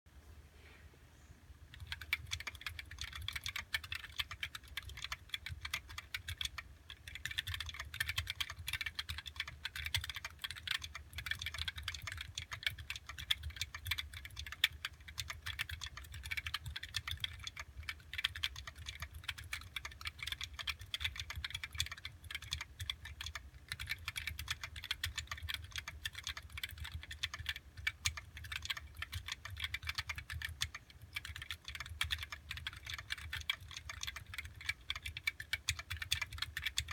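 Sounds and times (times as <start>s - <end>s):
mechanical keyboard typing: 1.7s - 36.9s.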